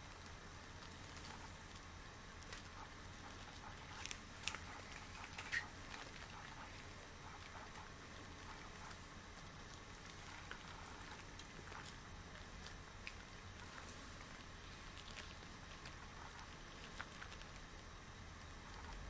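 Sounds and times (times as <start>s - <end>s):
latex gloves rustling: 0.0s - 18.0s.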